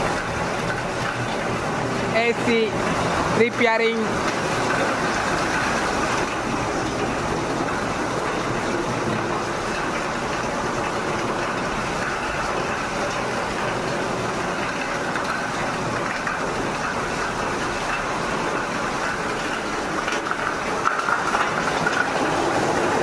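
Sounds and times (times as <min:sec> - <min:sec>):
air conditioner running: 0:00.0 - 0:23.0.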